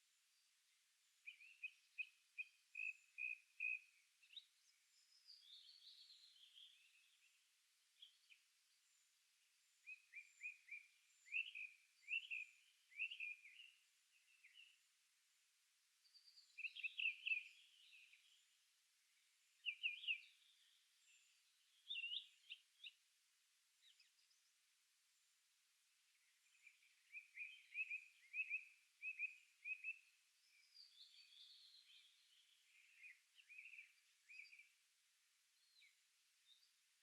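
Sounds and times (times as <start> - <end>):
songbirds singing: 0.0 - 37.0.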